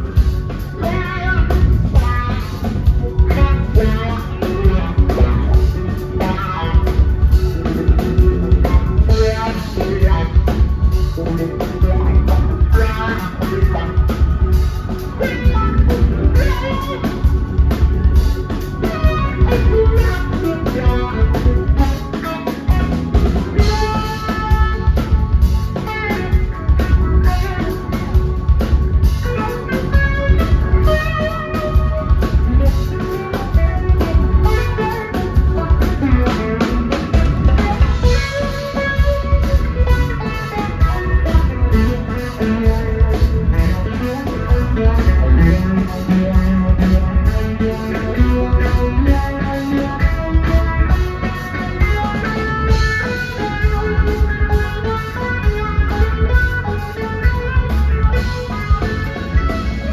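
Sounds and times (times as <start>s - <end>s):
bass: 0.0s - 59.9s
electric guitar chords: 0.0s - 59.9s.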